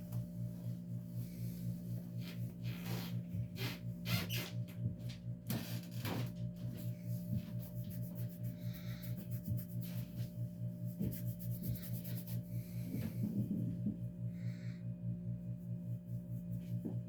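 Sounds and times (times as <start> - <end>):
ceiling fan motor buzzing hum: 0.0 - 17.0.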